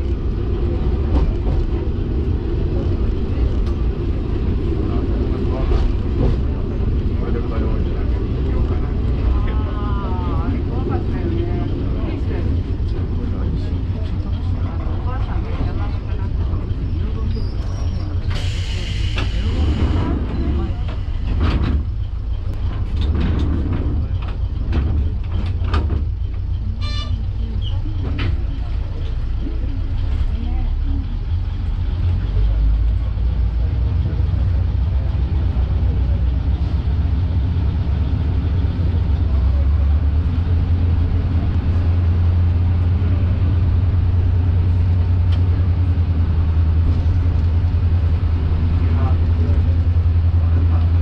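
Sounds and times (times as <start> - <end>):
railcar engine rumble: 0.0 - 51.0.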